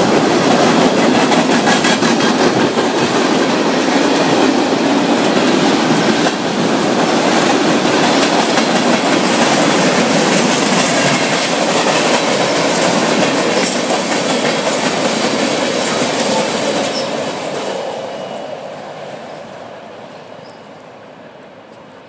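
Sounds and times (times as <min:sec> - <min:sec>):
freight train wheels clattering: 0:00.0 - 0:19.4.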